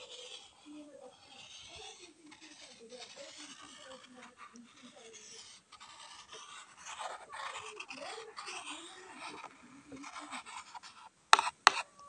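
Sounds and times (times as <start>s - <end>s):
chalk scraping on chalkboard: 0.0s - 11.9s.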